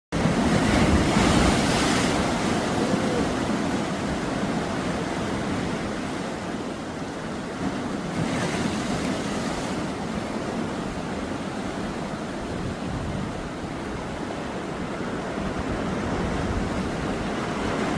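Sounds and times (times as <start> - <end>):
sea waves breaking on beach: 0.2 - 17.9.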